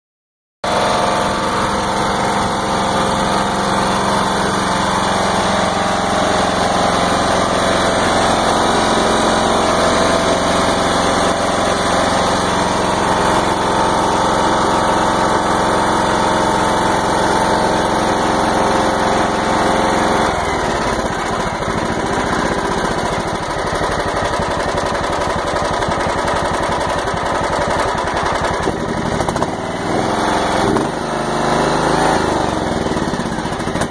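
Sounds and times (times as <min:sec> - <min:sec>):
lawn tractor engine running: 0:00.6 - 0:33.9.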